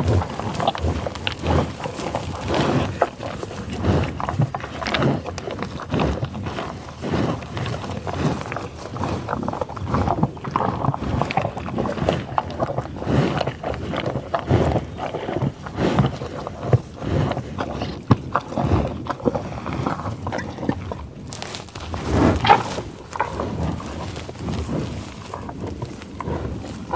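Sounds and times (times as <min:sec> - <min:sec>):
bison grunting: 0:00.0 - 0:26.9
grass rustling and crackling: 0:00.0 - 0:26.9.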